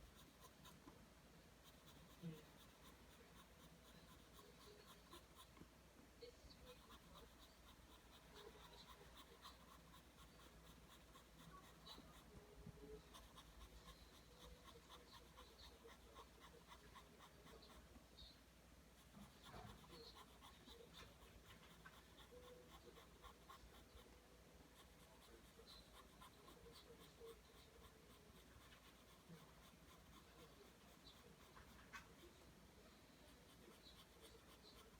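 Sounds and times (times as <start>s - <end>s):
pencil scratching on paper: 0.0s - 5.7s, 6.5s - 18.2s, 18.9s - 34.9s.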